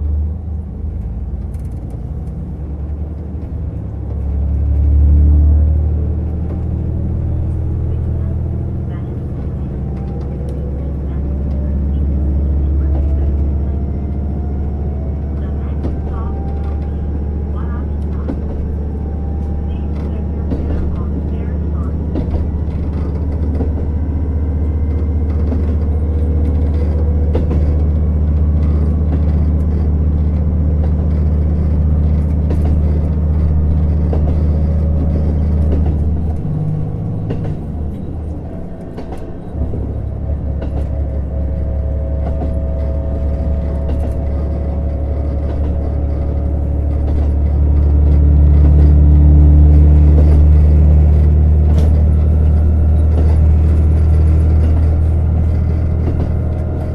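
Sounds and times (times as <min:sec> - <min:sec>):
railcar diesel engine humming: 0:00.0 - 0:56.9.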